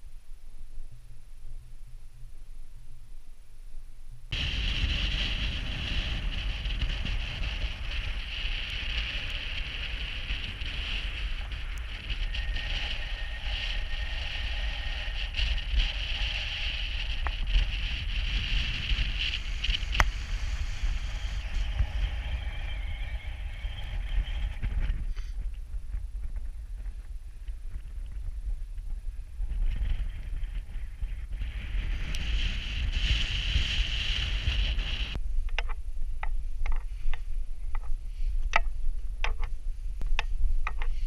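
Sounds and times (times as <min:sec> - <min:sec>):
wind buffeting microphone: 0:04.3 - 0:41.0.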